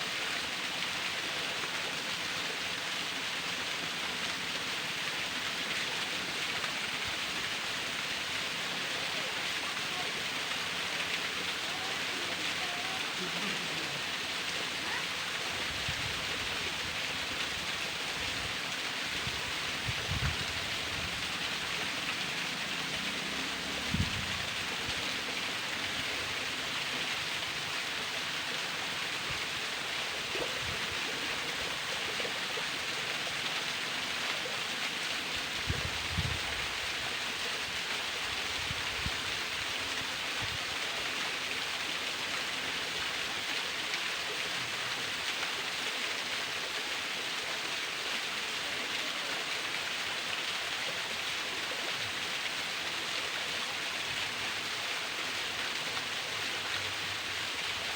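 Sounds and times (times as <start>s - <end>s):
waterfall splashing: 0.0s - 57.9s.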